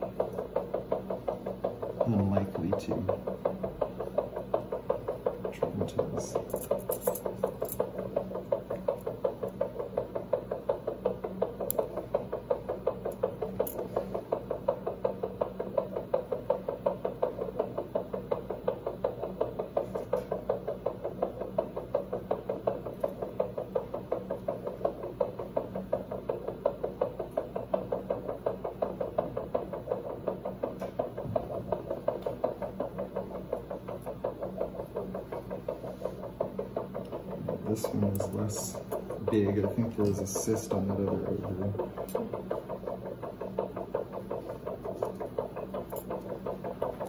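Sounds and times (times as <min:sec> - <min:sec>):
monitor heartbeat pulsing: 0:00.0 - 0:47.0.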